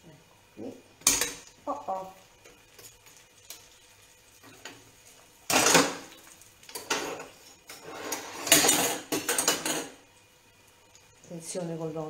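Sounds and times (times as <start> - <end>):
frying oil hissing: 0.0 - 12.0.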